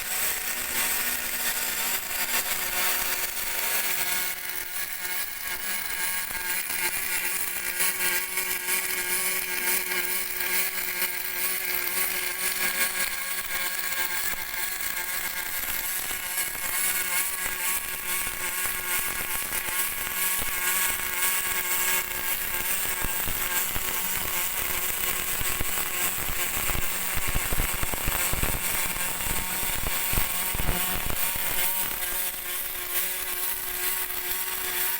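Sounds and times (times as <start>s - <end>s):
welding arc hissing and crackling: 0.0s - 34.9s.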